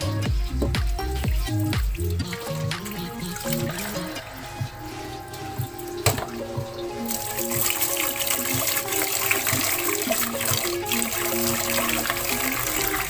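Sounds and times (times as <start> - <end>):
background music: 0.0 - 13.0
tap water running into a pot: 0.0 - 13.0.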